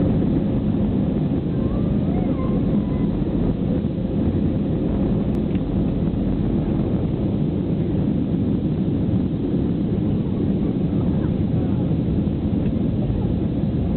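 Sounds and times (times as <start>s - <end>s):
jet engine cabin rumble: 0.0s - 13.9s.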